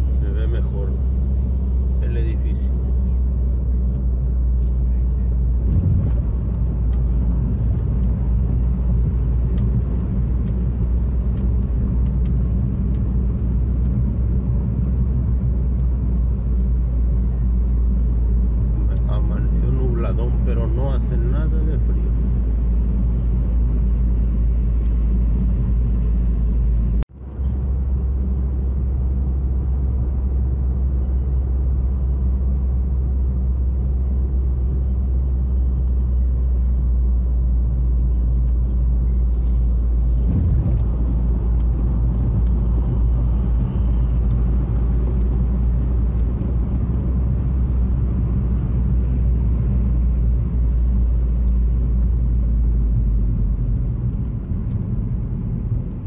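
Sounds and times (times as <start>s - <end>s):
road and engine drone in car: 0.0s - 56.0s.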